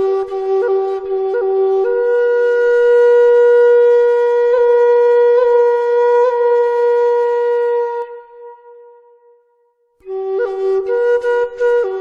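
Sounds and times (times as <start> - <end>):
flute holding long note: 0.0 - 9.2, 10.0 - 12.0.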